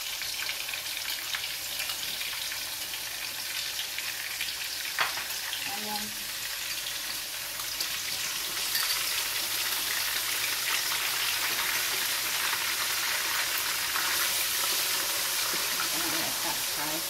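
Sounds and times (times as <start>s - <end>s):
onion paste sizzling in hot oil: 0.0s - 17.0s.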